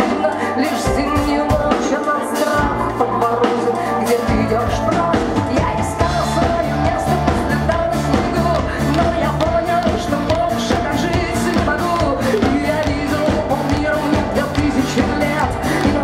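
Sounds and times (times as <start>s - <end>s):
bass guitar: 0.0s - 16.0s
drum kit: 0.0s - 16.0s.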